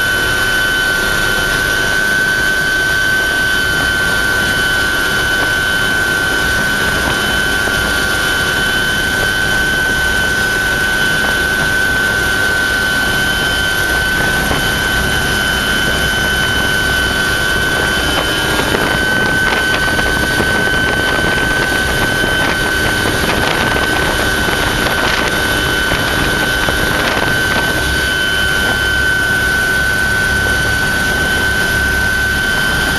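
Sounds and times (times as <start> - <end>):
helicopter engine and rotor drone: 0.0 - 32.9.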